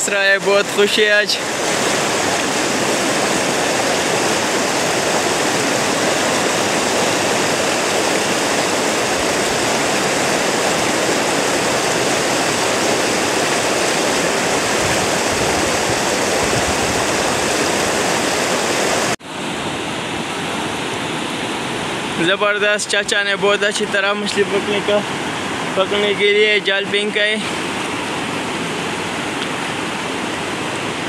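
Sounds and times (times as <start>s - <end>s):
river rushing over boulders: 0.0s - 31.0s.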